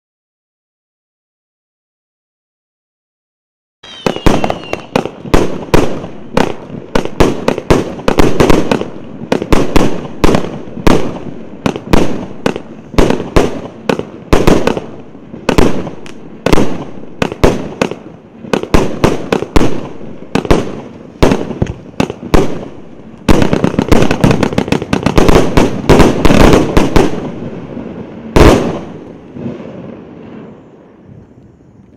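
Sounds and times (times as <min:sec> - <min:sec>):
fireworks bangs: 0:03.8 - 0:31.9.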